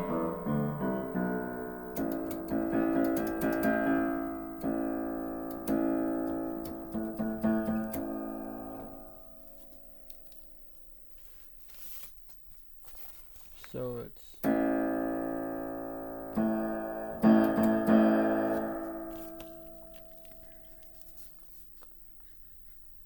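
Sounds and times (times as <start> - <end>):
spinet piano playing: 0.0 - 11.2, 14.4 - 21.8.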